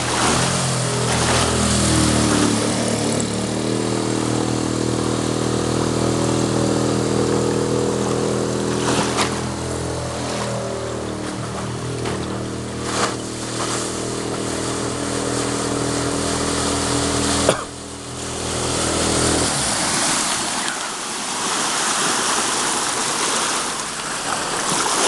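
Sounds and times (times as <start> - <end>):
outboard motor running: 0.0 - 25.0
water rushing: 0.0 - 25.0.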